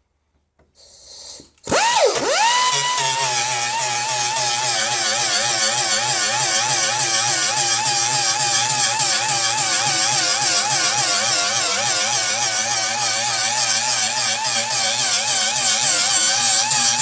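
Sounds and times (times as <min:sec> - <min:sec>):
electric power tool whining: 0:01.4 - 0:17.0.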